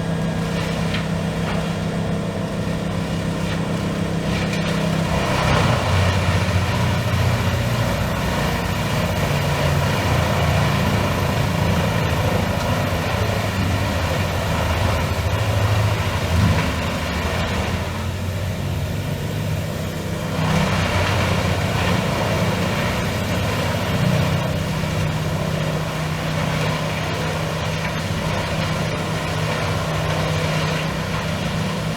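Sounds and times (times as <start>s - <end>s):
deep diesel engine drone: 0.0s - 31.9s
faint high thin whine: 0.0s - 31.9s
shredder mechanical rush: 0.0s - 31.9s.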